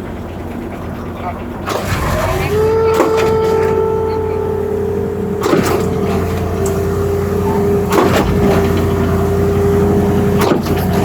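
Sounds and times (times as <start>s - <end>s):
pump pistons clunking: 0.0s - 11.0s
pump truck engine running: 0.0s - 11.0s.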